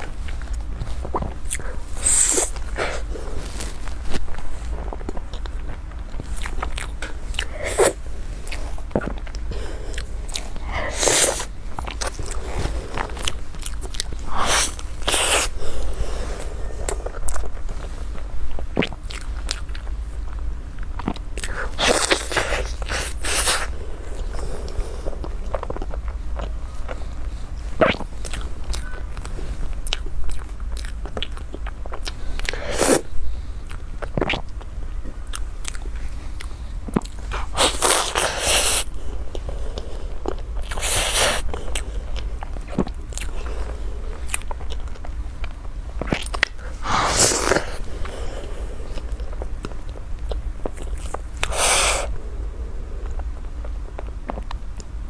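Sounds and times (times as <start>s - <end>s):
chewing and biting: 0.0s - 52.2s, 53.0s - 55.0s.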